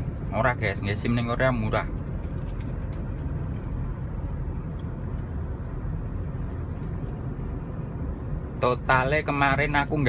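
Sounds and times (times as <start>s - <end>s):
road noise: 0.0s - 10.0s
truck engine rumble: 0.0s - 10.0s.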